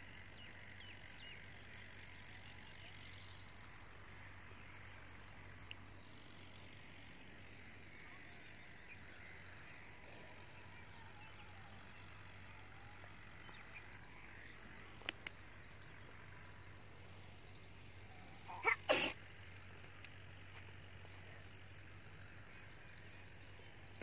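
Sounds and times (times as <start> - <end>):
distant birds or frogs chirping: 0.0 - 24.0.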